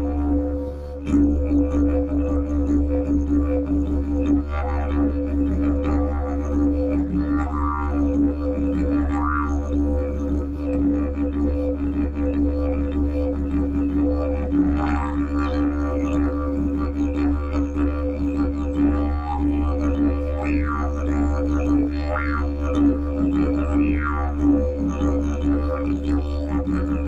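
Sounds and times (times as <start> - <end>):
didgeridoo drone: 0.0 - 27.0.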